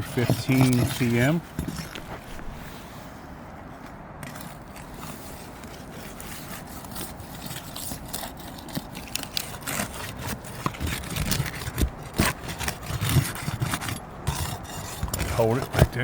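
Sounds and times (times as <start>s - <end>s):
roof shingles scraping and rustling: 0.0s - 3.0s, 4.2s - 16.0s.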